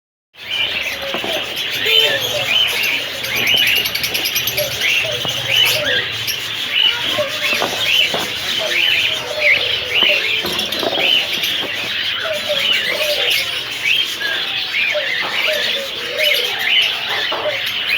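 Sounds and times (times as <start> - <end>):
birds chirping: 0.4 - 17.9.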